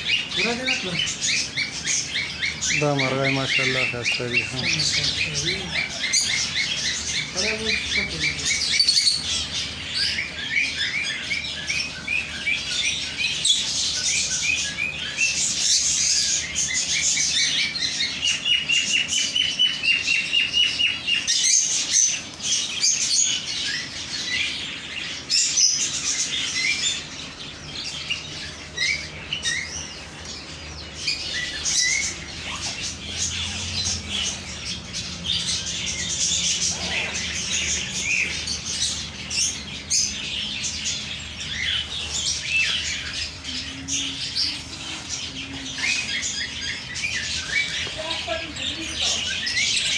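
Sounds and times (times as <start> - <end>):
small birds chirping chorus: 0.0 - 49.9.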